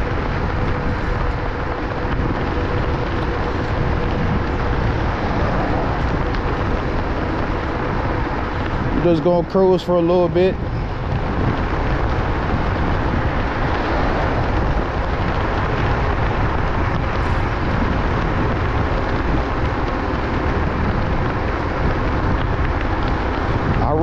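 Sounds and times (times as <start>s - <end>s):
tyre-on-road noise: 0.0s - 24.0s
wind rush over microphone: 0.0s - 24.0s.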